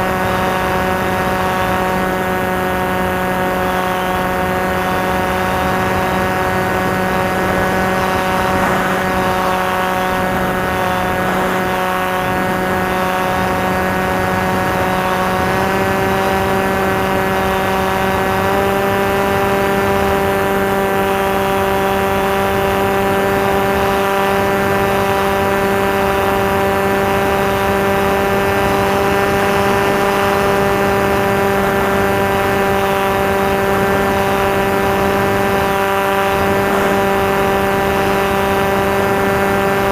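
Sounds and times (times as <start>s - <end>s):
rc plane motor whine: 0.0s - 39.9s.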